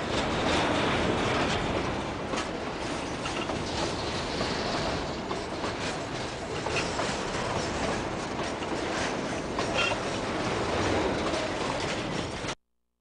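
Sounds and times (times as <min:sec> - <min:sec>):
steel wheels rumbling on track: 0:00.0 - 0:12.6
wheels clicking over rail joints: 0:00.0 - 0:12.6.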